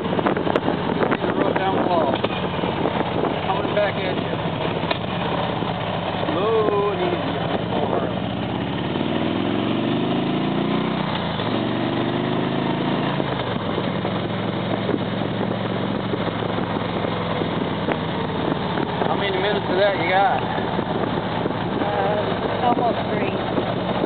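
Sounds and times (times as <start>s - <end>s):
motorcycle engine revving: 0.0s - 24.0s
wind noise: 0.0s - 24.0s.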